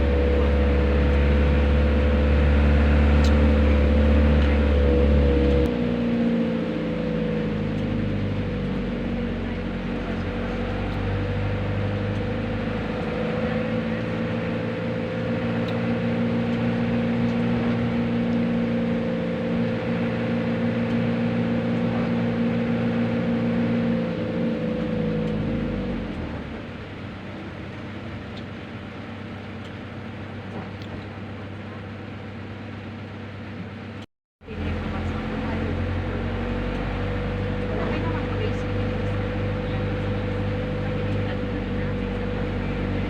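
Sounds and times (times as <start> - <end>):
road noise: 0.0 - 43.0
vehicle engine hum: 0.0 - 43.0.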